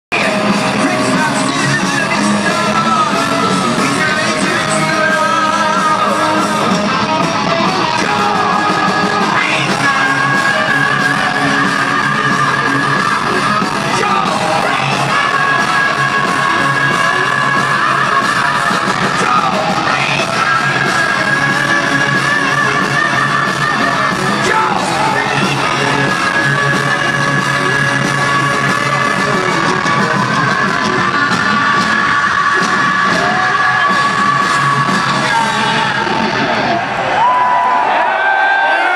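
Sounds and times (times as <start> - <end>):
distorted electric guitar: 0.1 - 37.4
heavy metal band playing live: 0.1 - 37.5
drums: 0.1 - 38.9
high yelled singing: 0.1 - 38.9.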